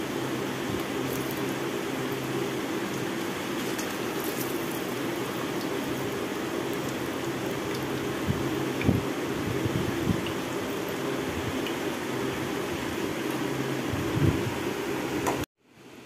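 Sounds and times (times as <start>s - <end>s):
hot oil sizzling in a frying pan: 0.0s - 14.1s.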